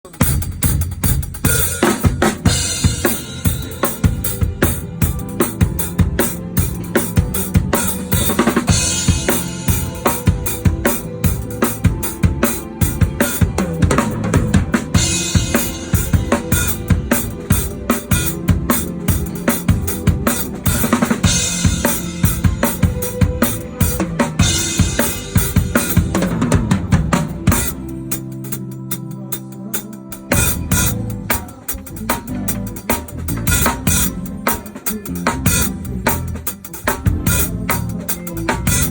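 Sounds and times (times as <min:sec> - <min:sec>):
band playing: 0:00.0 - 0:38.9
drum kit groove: 0:00.0 - 0:38.9.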